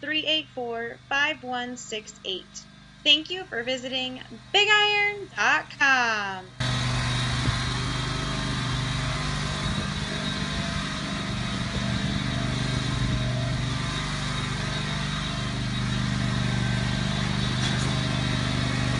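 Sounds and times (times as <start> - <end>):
riding mower engine running: 0.0 - 18.9.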